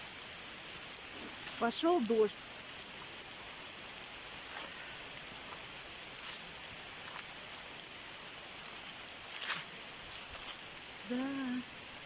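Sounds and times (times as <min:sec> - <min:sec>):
steady rain falling: 0:00.0 - 0:12.0
raindrops tapping: 0:00.6 - 0:10.8.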